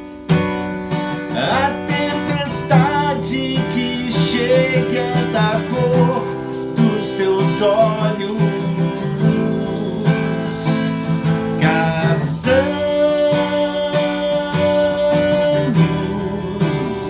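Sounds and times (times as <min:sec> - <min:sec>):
acoustic guitar strumming: 0:00.0 - 0:17.0
man singing: 0:01.2 - 0:17.0.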